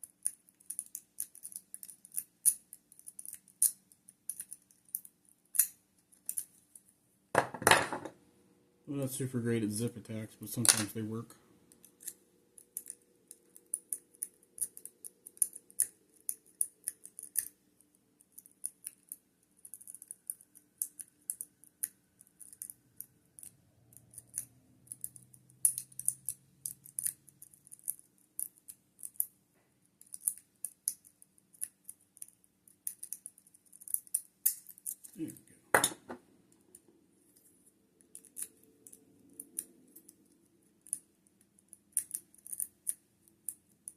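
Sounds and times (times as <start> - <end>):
lock pick clicking and scraping: 0.0 - 6.8, 11.8 - 17.6, 18.2 - 29.3, 30.0 - 35.1, 37.4 - 43.9.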